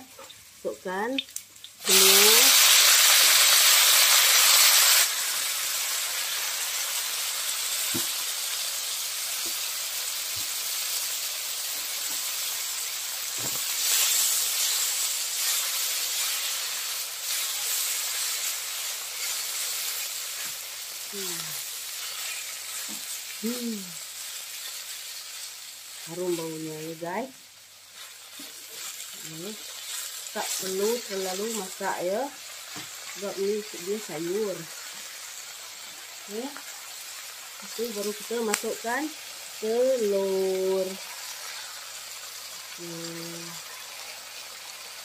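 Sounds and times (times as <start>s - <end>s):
leaves sizzling in hot oil: 0.0s - 45.0s.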